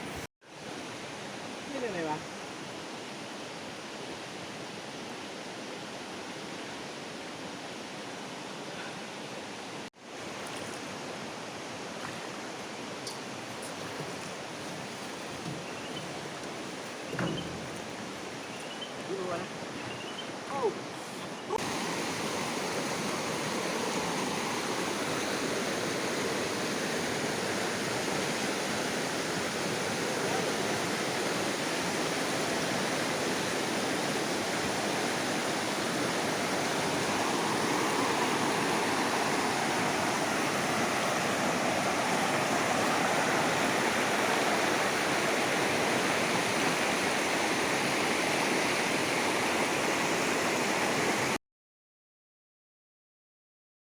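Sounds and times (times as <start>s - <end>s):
rushing stream water: 0.0s - 51.4s.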